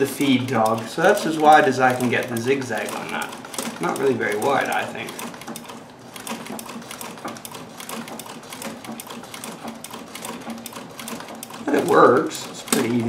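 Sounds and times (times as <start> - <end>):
sewing machine clattering: 0.0 - 13.0.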